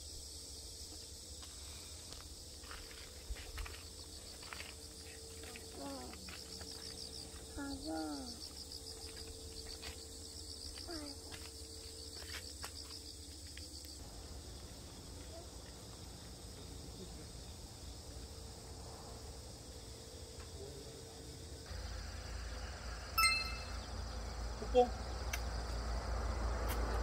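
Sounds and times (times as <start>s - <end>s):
insects chirping in pulsing trill: 0.0s - 26.9s
faint outdoor hiss: 0.0s - 27.0s.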